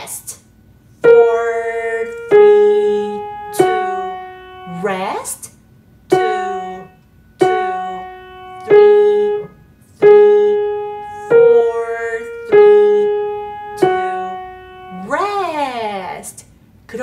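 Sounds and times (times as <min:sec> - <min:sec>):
piano single notes: 0:01.0 - 0:05.4, 0:06.1 - 0:15.8.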